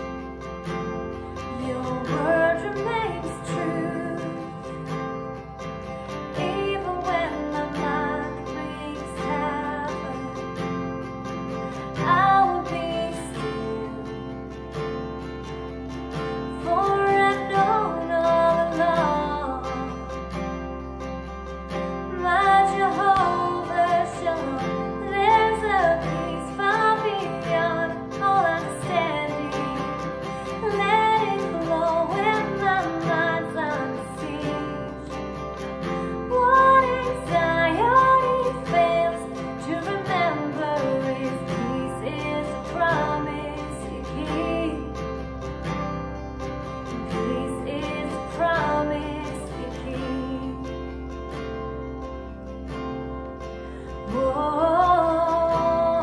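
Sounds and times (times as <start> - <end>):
woman singing: 0.0 - 52.4, 53.8 - 56.0
strummed acoustic guitar: 0.0 - 56.0.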